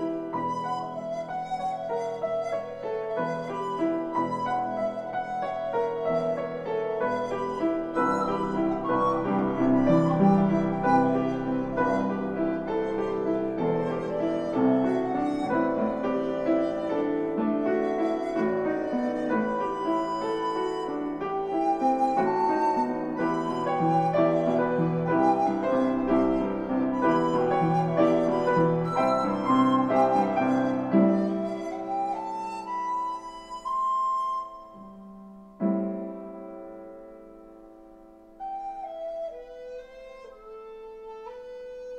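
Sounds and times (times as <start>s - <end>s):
recorder melody: 0.0s - 36.0s
piano playing: 0.0s - 41.9s.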